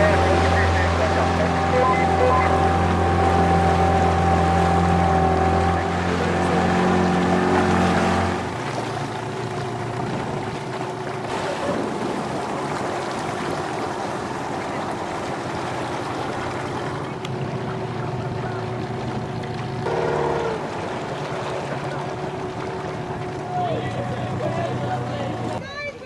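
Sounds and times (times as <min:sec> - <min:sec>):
outboard motor running: 0:00.0 - 0:26.0
water noise: 0:00.0 - 0:26.0
wind: 0:00.0 - 0:26.0.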